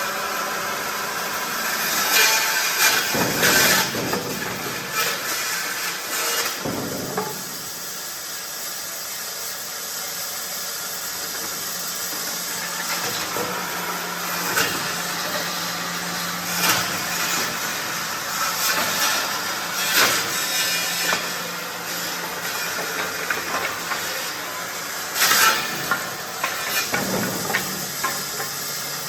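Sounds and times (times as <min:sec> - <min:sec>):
pallet dismantling machine running: 0:00.4 - 0:29.0.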